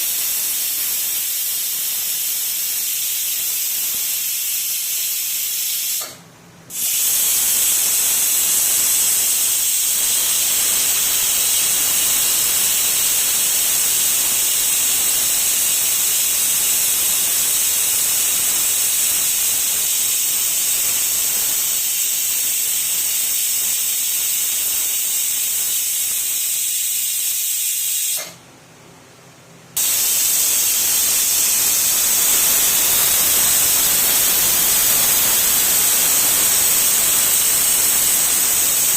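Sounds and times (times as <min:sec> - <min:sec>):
pressure cooker whistle hissing: 0:00.0 - 0:28.4, 0:29.8 - 0:38.9.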